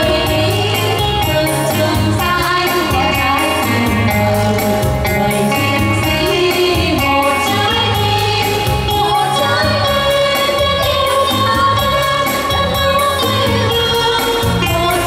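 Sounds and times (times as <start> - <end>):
instrumental accompaniment with beat: 0.0 - 15.0
women singing into microphones: 0.0 - 15.0.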